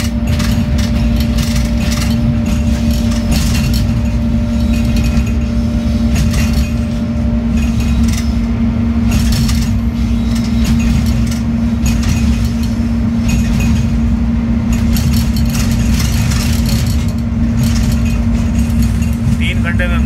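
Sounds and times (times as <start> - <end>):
locomotive engine droning: 0.0 - 20.0
train clicking and rattling: 0.0 - 20.0.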